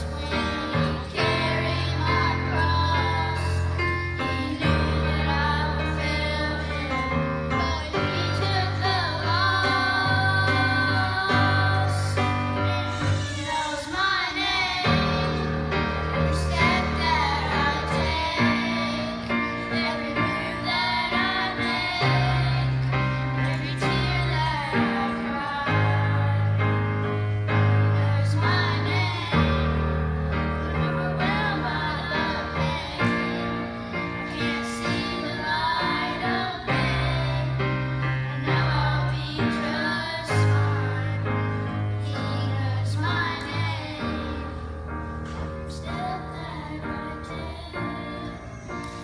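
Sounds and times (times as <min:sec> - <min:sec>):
boys singing in unison: 0:00.0 - 0:26.8, 0:27.5 - 0:44.7
electric keyboard chords: 0:00.0 - 0:49.0.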